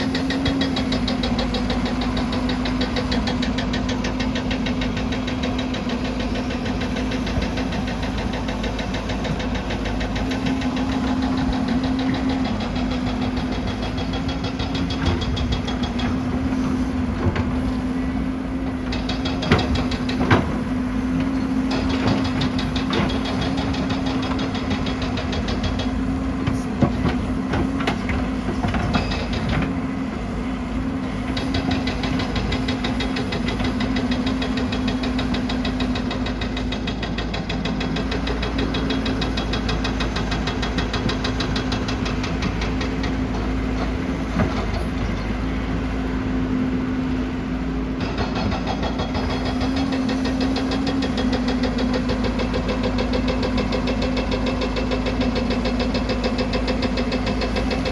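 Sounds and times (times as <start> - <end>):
excavator diesel engine whining: 0.0 - 57.9.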